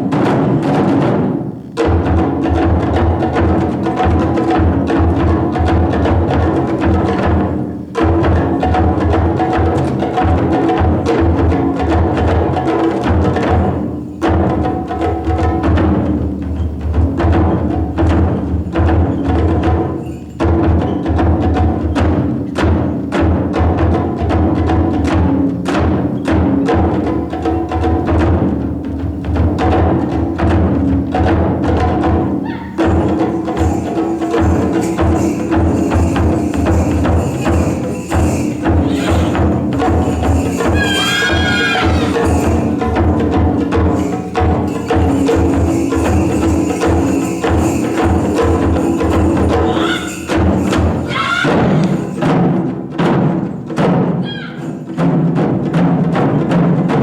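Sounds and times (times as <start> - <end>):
taiko drums: 0.0 - 57.0.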